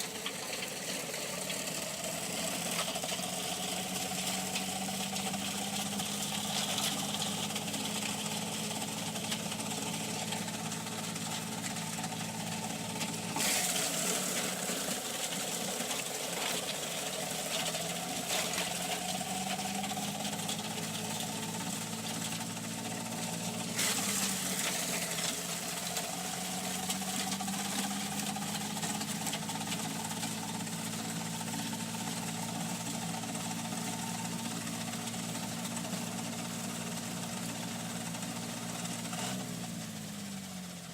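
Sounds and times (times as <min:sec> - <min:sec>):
engine running: 0:00.0 - 0:40.9.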